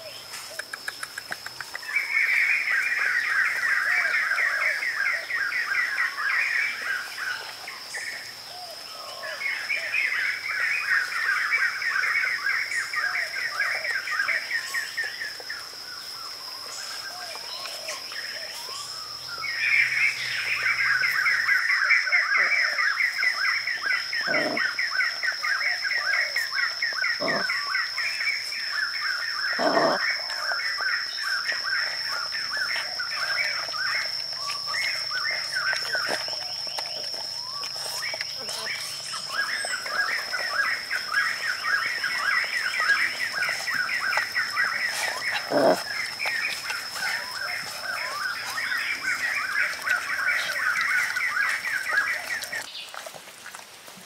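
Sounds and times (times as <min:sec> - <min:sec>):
birds chirping: 0:00.0 - 0:53.1.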